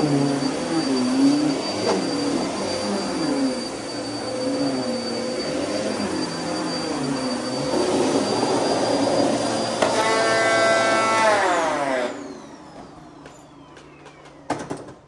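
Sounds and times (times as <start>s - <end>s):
motor whine spinning down: 0.0s - 14.6s
vacuum cleaner running: 0.0s - 15.0s.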